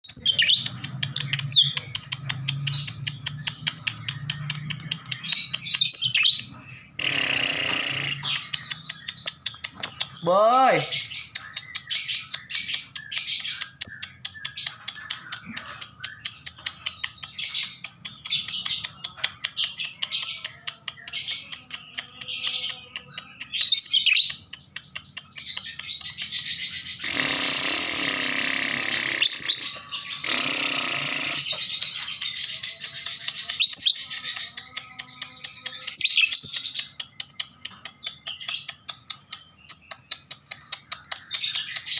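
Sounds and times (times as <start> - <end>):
lovebird chirping: 0.0 - 41.9.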